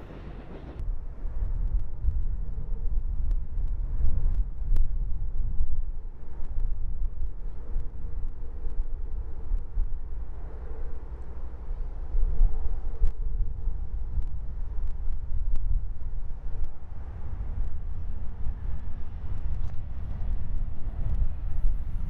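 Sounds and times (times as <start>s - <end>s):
train rumbling in tunnel: 0.0s - 22.0s
wind noise on microphone: 0.0s - 22.0s.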